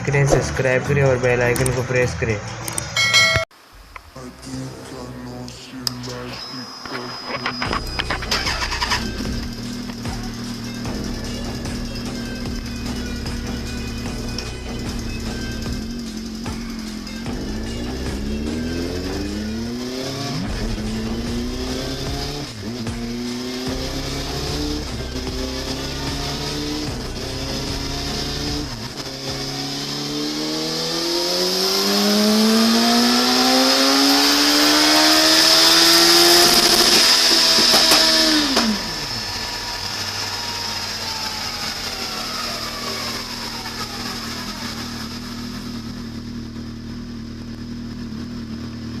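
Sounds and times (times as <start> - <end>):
motorcycle engine revving: 7.4 - 49.0.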